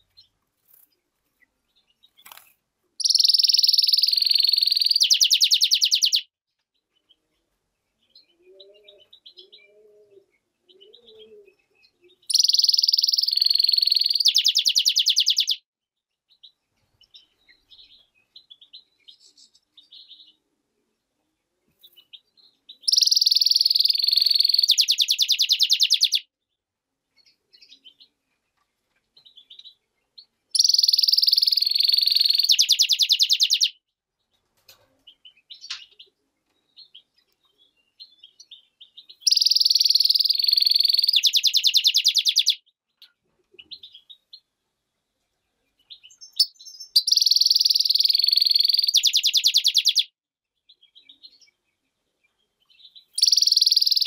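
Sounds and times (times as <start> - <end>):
bird singing warble and trill: 0.0 - 26.3, 27.1 - 34.4, 35.0 - 54.0
soft bird chirps: 0.0 - 54.0.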